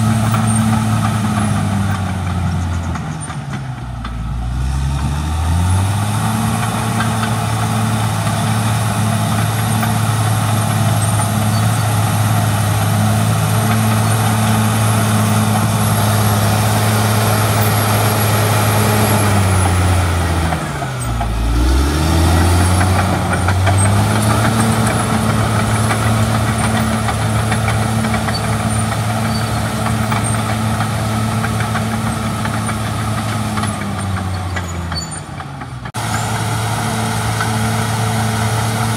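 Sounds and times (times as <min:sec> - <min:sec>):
bulldozer diesel engine revving: 0:00.0 - 0:38.9.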